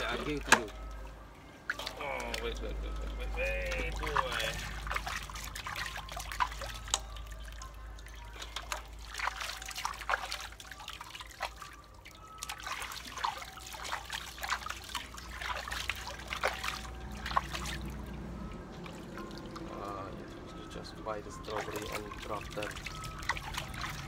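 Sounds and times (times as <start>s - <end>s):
water splashing in a metal basin: 0.0s - 24.0s.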